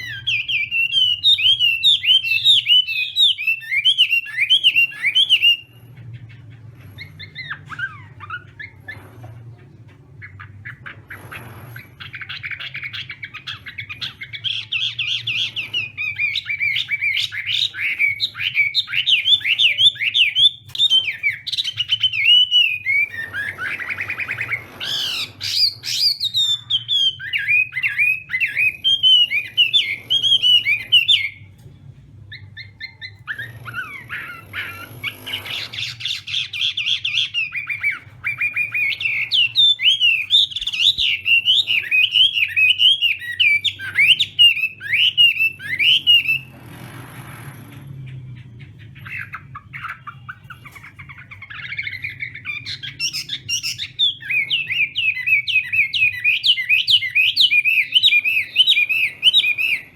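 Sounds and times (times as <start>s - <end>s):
bird singing whistled notes: 0.0s - 5.8s, 12.0s - 31.5s, 32.3s - 46.5s, 48.4s - 59.9s.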